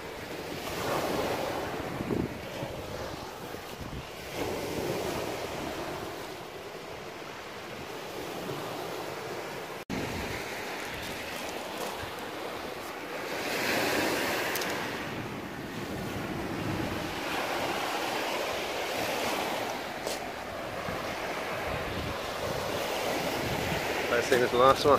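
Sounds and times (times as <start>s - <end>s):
waves on shingle beach: 0.0s - 24.9s
wind on microphone: 0.2s - 7.0s, 9.9s - 24.2s.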